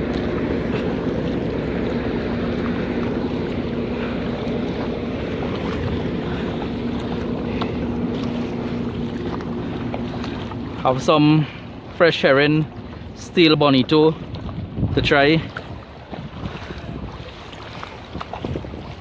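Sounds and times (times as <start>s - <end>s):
low machinery hum: 0.0s - 19.0s
paddle splashes and ticks: 0.0s - 19.0s
water lapping around kayak: 0.0s - 19.0s
wind buffeting microphone: 0.0s - 19.0s.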